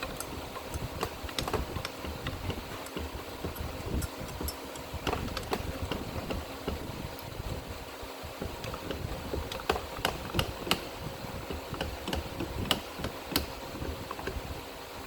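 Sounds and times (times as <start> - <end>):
sharp metallic clicks and knocks: 0.0 - 7.4, 8.2 - 14.5
low rumble of shaking bench: 0.0 - 14.6.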